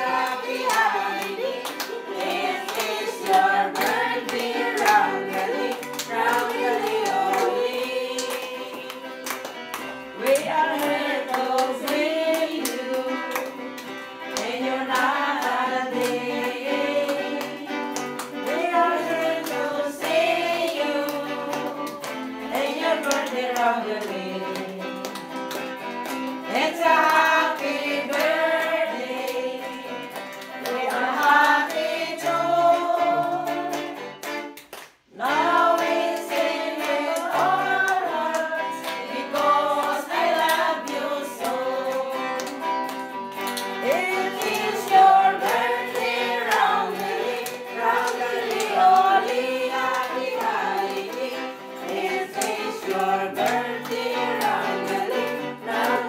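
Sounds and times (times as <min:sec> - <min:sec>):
group singing with instruments: 0:00.0 - 0:56.0.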